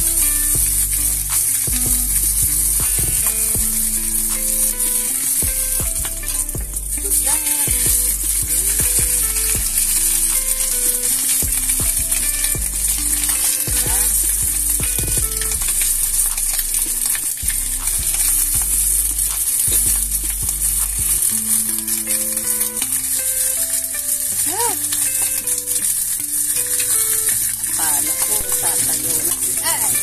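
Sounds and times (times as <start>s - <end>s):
fish sizzling in a pan: 0.0s - 30.0s
soft music: 0.0s - 30.0s.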